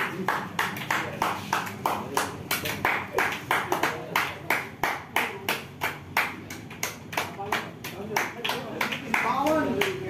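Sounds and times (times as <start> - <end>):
people clapping in rhythm: 0.0 - 10.0.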